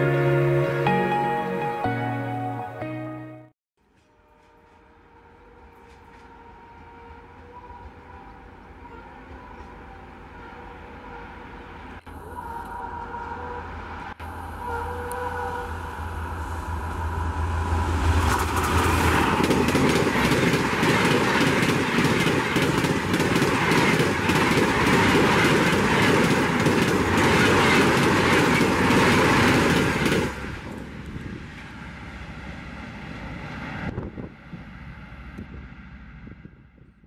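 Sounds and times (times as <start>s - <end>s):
train clattering past: 3.8s - 10.3s, 12.6s - 36.9s
train rumble: 3.8s - 37.0s.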